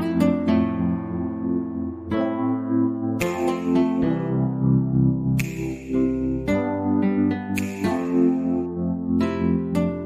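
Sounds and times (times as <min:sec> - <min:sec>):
soft plucked instrumental music: 0:00.0 - 0:10.0.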